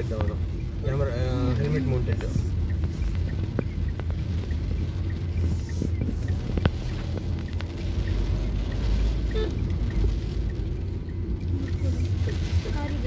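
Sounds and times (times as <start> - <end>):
car engine and tyres rumbling: 0.0 - 13.0
faint clicks: 1.5 - 12.6.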